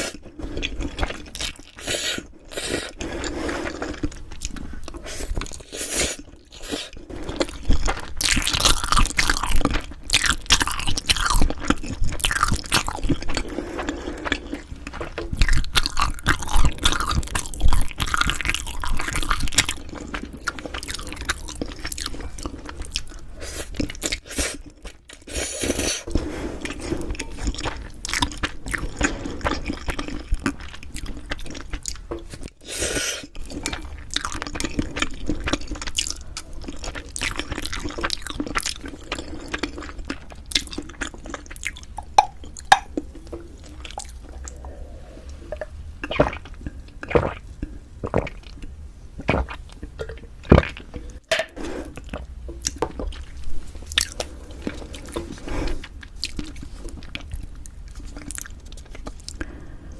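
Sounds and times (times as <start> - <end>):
person chewing crunchy food: 0.0 - 51.2, 51.8 - 59.9.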